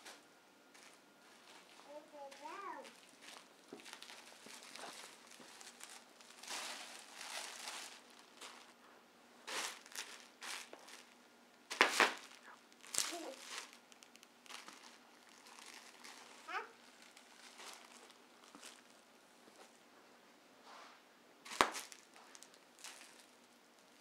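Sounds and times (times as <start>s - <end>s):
bubble wrap crinkling: 0.7s - 8.8s, 9.4s - 19.7s, 21.4s - 24.0s
bubble wrap cracks: 0.8s - 8.8s, 9.4s - 19.0s, 21.4s - 24.0s.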